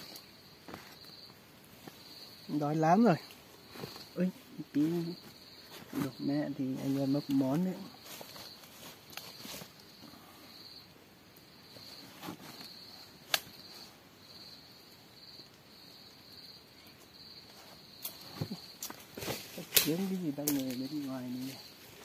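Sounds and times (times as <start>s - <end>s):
insect trilling: 0.0s - 22.0s.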